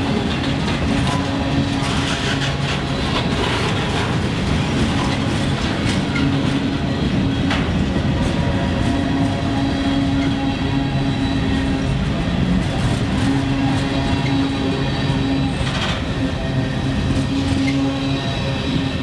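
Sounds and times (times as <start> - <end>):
clacks over rail joints: 0.0 - 10.5, 11.5 - 16.4
wheels rumbling and rattling on rail: 0.0 - 19.0.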